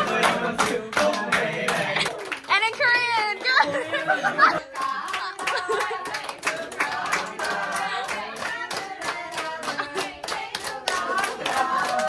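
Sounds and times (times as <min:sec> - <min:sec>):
group of people singing: 0:00.0 - 0:02.4, 0:03.5 - 0:12.0
hands clapping: 0:00.0 - 0:03.7, 0:04.6 - 0:12.0.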